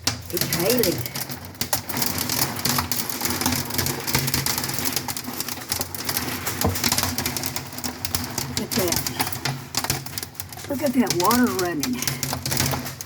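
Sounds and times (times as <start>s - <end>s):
hail and rain hitting house: 0.0s - 13.0s.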